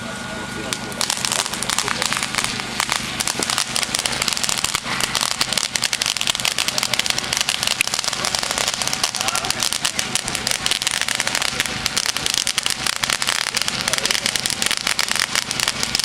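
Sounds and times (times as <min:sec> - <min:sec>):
firework fountain spray hiss: 0:00.0 - 0:16.0
rapid firework crackling: 0:00.3 - 0:16.0.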